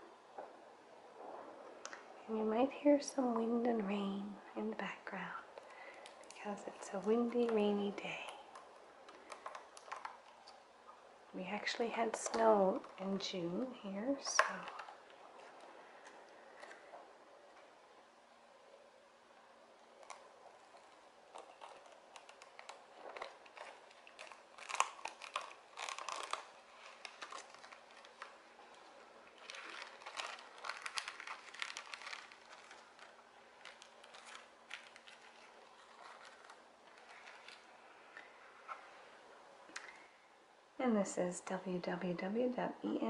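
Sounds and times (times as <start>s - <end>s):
cellophane wrap crinkling: 3.2s - 18.0s, 19.4s - 40.2s.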